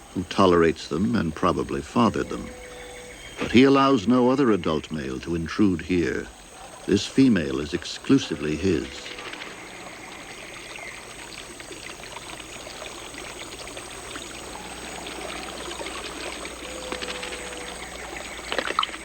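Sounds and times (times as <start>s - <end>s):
small trickling splashes: 0.0s - 19.0s
stream water running: 0.0s - 19.0s.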